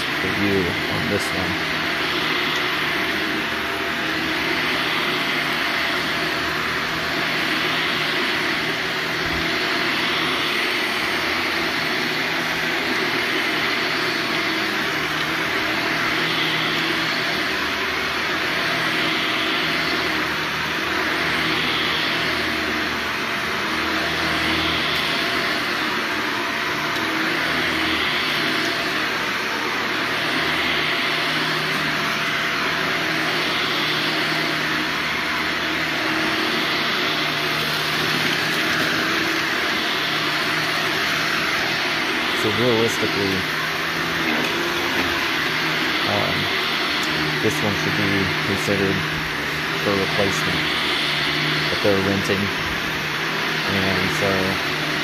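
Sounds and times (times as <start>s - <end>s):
carpet cleaning machine suction: 0.0s - 55.0s.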